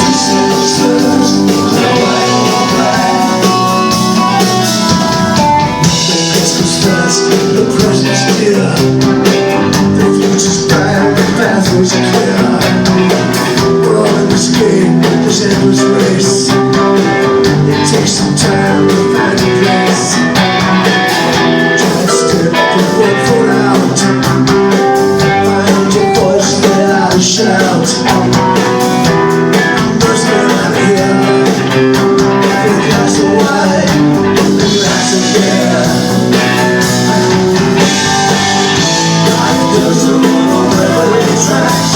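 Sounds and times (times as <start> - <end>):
guitar: 0.0 - 41.9
live rock band playing: 0.0 - 41.9.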